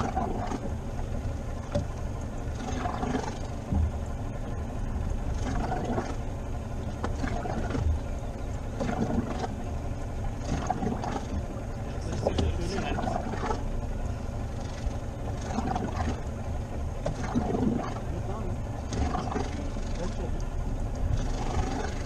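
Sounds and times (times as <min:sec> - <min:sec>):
faint splashes and knocks: 0:00.0 - 0:13.8, 0:14.6 - 0:22.0
water against inflatable boat: 0:00.0 - 0:22.0
wind: 0:00.0 - 0:22.0.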